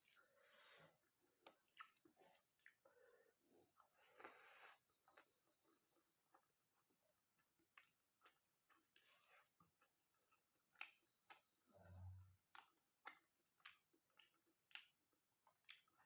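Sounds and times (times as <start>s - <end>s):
close-up chewing: 0.0s - 16.0s.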